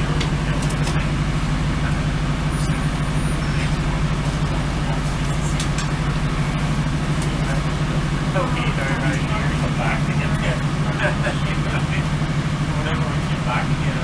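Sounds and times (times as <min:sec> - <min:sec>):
train engine humming: 0:00.0 - 0:14.0.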